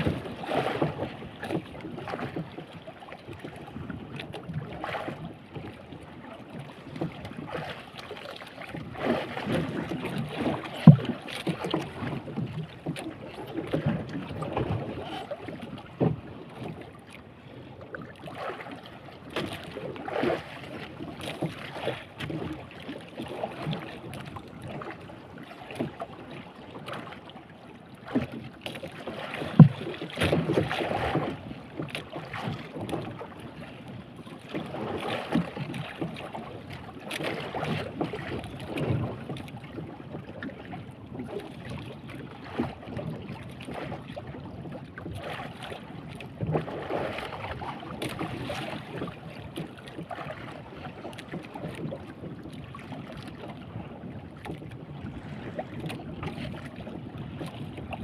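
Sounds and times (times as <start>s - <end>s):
water lapping against boat hull: 0.0s - 58.0s.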